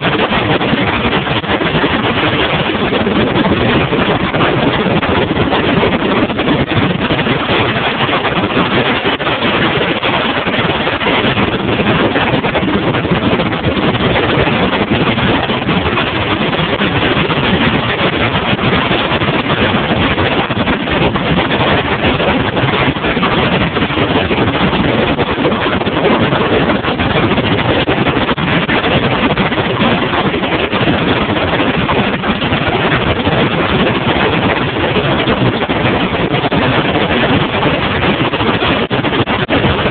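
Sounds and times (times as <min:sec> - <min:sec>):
outboard motor running: 0:00.0 - 0:39.9
rushing water: 0:00.0 - 0:39.9
wind noise: 0:00.0 - 0:39.9.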